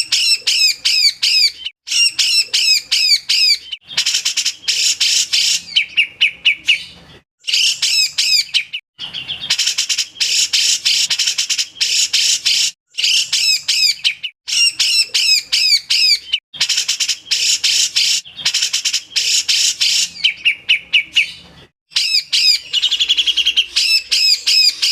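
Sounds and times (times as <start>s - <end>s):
bird chattering song: 0.0s - 24.9s.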